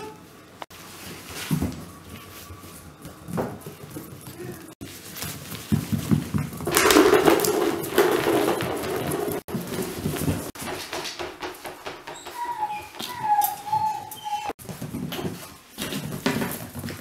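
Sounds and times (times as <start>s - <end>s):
puppy playing with rope toy: 1.0s - 17.0s.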